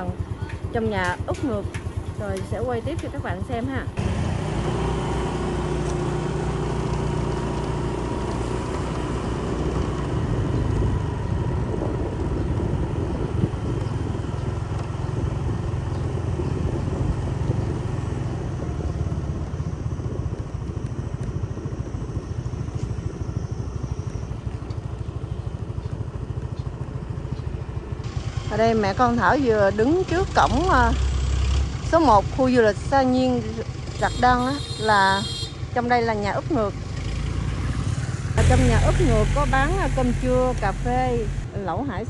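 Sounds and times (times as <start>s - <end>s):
motorbike engine running: 0.0s - 42.0s
road and air noise: 0.0s - 42.0s.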